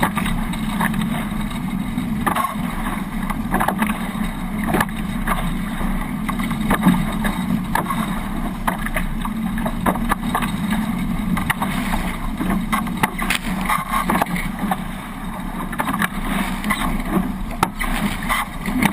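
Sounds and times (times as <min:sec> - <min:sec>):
water rushing past boat hulls: 0:00.0 - 0:18.9.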